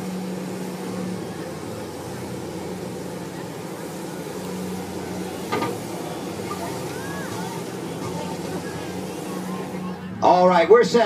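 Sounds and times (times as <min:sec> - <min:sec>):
crowd murmuring: 0:00.0 - 0:10.9
mechanical hum of lifting machinery: 0:00.0 - 0:11.0.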